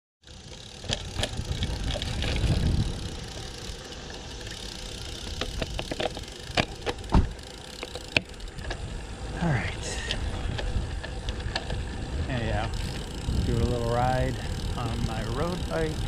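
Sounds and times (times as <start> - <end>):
bike clicks and rattles: 0.2 - 16.0
wind and road rumble: 0.2 - 16.0.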